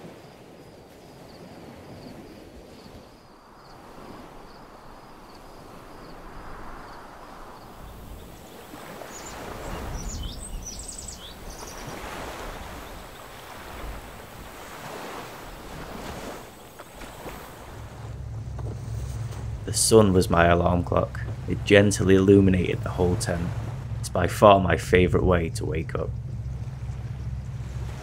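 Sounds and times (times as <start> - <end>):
sea waves washing against shore: 0.0 - 28.0
wind rumbling on microphone: 0.0 - 28.0.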